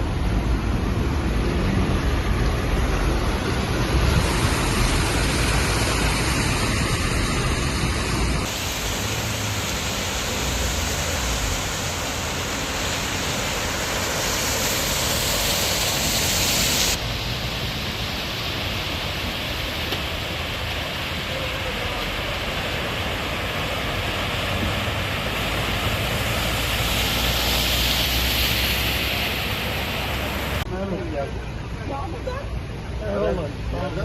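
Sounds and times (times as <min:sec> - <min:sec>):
rushing floodwater: 0:00.0 - 0:34.0.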